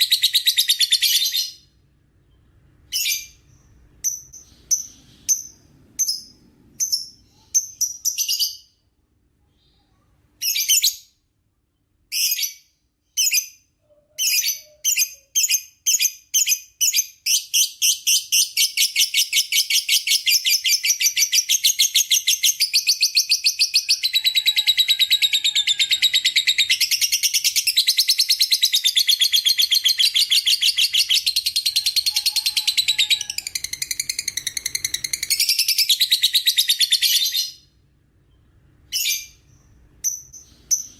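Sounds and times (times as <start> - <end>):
lovebird chirping and trilling: 0.0 - 8.8, 9.6 - 11.2, 12.1 - 40.9.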